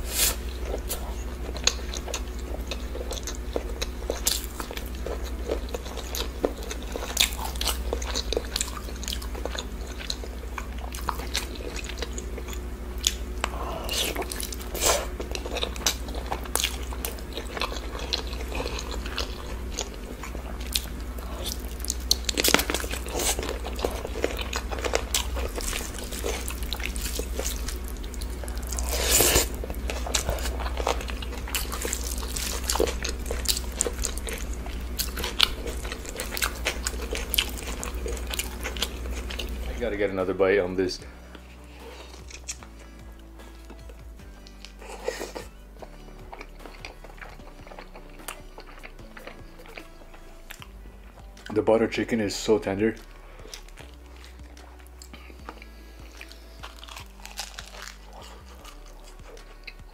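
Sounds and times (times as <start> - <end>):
person chewing and mouth smacks: 0.0 - 39.8, 41.3 - 51.6, 53.0 - 59.9
steady low hum: 0.0 - 59.9.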